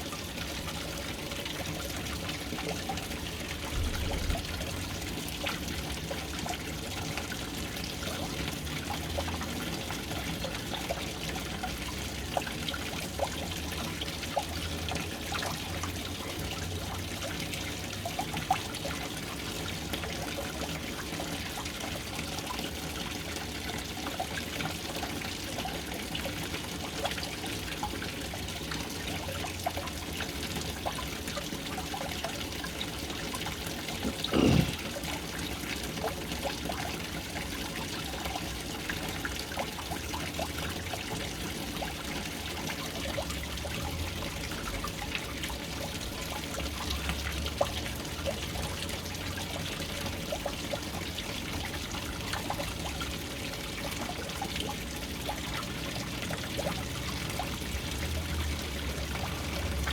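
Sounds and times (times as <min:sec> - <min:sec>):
water pouring into tank: 0:00.0 - 0:59.9.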